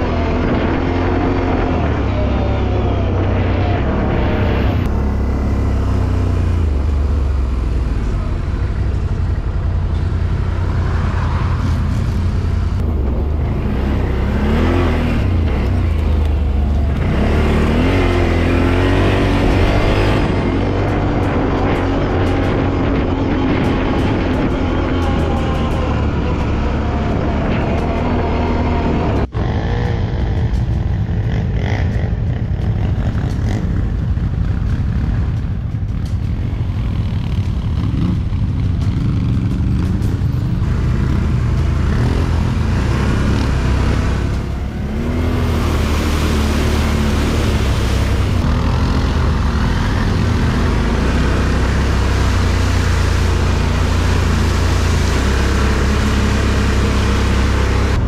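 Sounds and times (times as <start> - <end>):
off-road motorcycle engines droning: 0.0 - 58.0.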